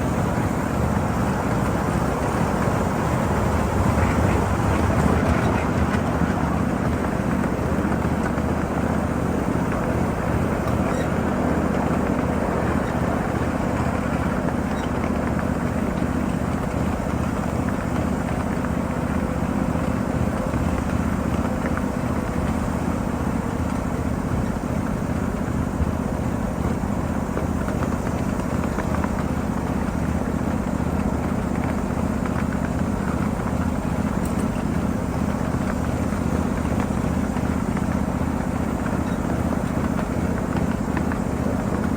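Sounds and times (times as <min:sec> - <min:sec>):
locomotive running: 0:00.0 - 0:41.9
train wheels rumbling on rails: 0:00.0 - 0:41.9.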